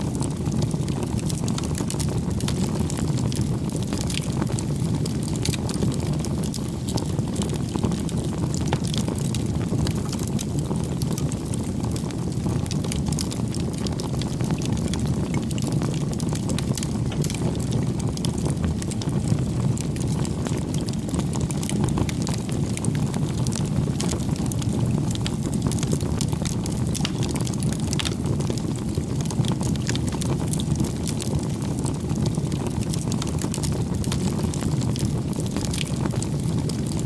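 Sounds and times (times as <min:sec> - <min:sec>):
fire snaps and pops: 0:00.0 - 0:37.0
low rush of flames: 0:00.0 - 0:37.0.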